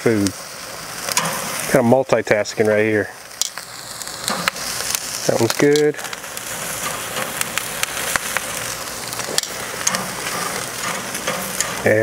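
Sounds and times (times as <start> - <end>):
charcoal crackling and popping: 0.0 - 12.0
chicken wings sizzling over flames: 0.0 - 12.0.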